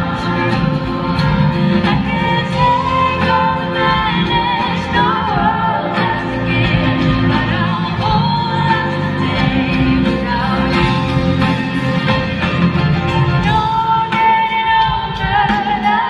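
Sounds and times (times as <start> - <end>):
woman singing: 0.0 - 11.8, 13.4 - 16.0
band playing pop ballad: 0.0 - 16.0.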